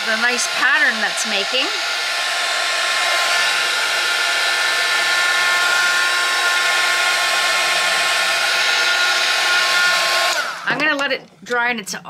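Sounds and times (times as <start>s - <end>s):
heat gun blowing air: 0.0s - 11.0s
heat gun motor whine: 0.0s - 11.0s.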